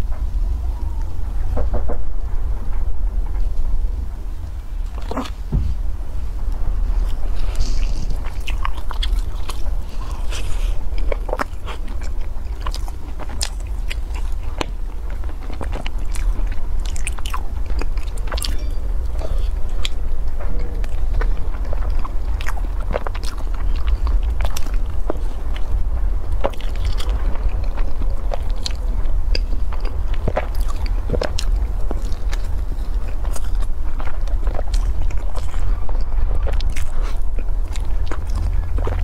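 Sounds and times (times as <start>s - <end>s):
steady low hum: 0.0s - 39.0s
crisp chewing crunches: 4.9s - 5.5s, 6.9s - 39.0s.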